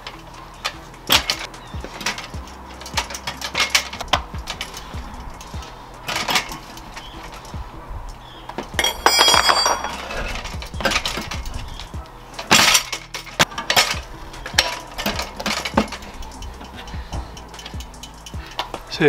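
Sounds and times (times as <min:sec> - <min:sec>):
metal tools knocking on wheel rim: 0:00.0 - 0:19.0
ringing metallic clatter: 0:00.0 - 0:19.0.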